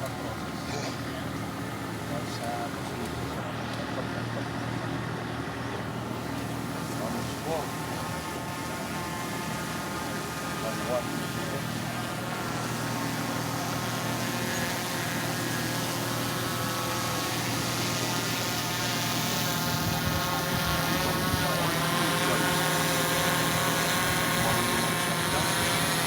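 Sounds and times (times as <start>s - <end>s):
motor running: 0.0s - 26.0s.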